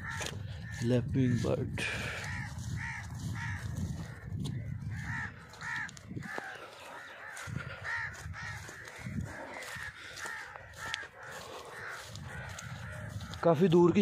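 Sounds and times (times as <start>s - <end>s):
lapwing calling: 0.0s - 14.0s.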